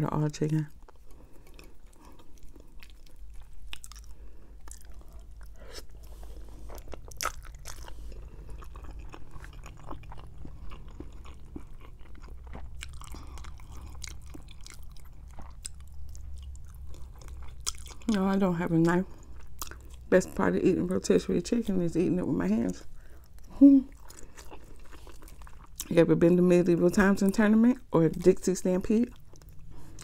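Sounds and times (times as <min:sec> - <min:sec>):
low steady hum: 0:00.0 - 0:30.0
chewing crispy chicken: 0:00.5 - 0:26.3, 0:26.9 - 0:30.0.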